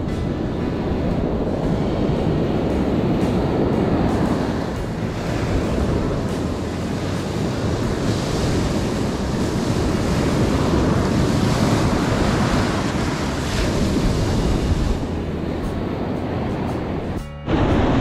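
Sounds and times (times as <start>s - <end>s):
ocean surf breaking: 0.0s - 18.0s
wind on microphone: 0.0s - 18.0s.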